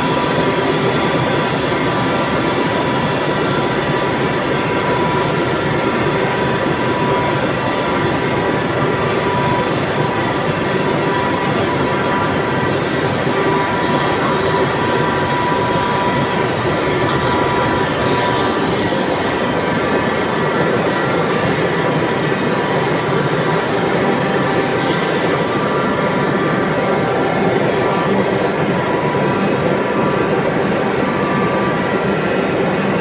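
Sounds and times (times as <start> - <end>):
high machinery whine: 0.0 - 33.0
machinery rumbling hum: 0.0 - 33.0.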